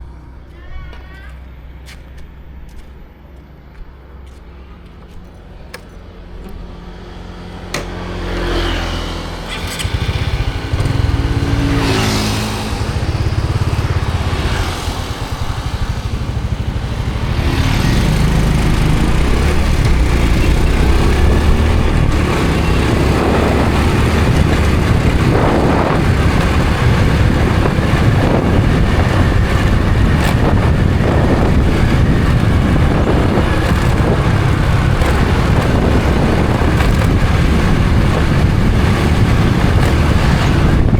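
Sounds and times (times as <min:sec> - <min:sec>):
motorcycle engine pulling away: 0:05.9 - 0:40.9.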